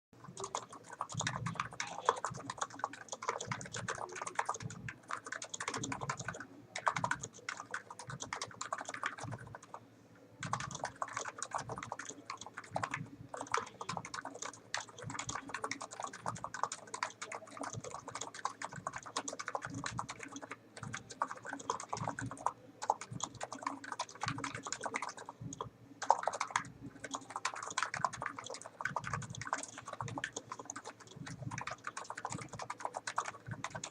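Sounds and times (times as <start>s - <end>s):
fast keyboard typing: 0.2s - 9.8s, 10.4s - 33.9s.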